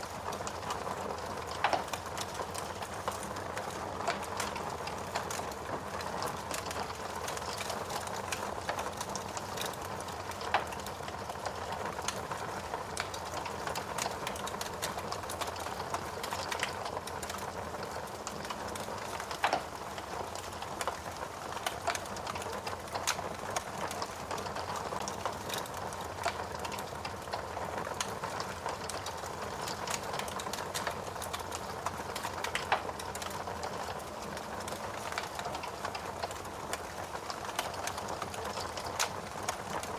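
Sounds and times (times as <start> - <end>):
steady rain hiss: 0.0 - 39.9
wood fire crackling: 0.0 - 39.9.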